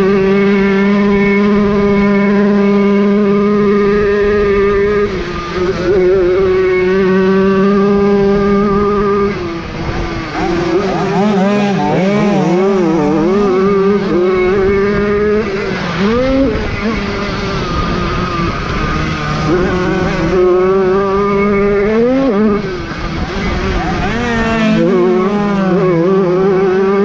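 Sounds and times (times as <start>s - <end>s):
two-stroke motorcycle engines racing: 0.0s - 27.0s.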